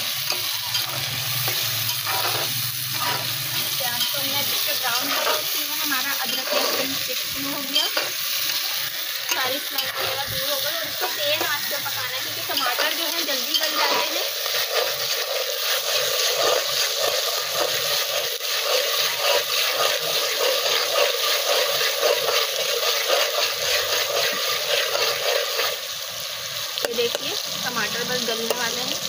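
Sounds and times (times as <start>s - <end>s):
tomatoes sizzling in hot oil: 0.0s - 29.0s
metal spatula scraping pot: 0.2s - 25.8s.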